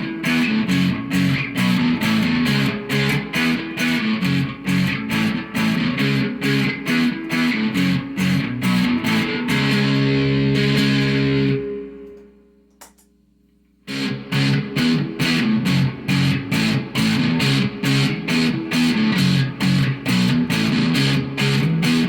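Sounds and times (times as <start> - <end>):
electric guitar strumming: 0.0 - 13.0, 13.9 - 22.0.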